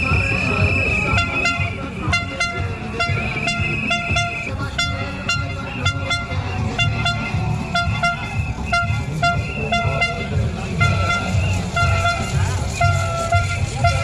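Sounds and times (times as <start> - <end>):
short horn toots: 1.1 - 14.0.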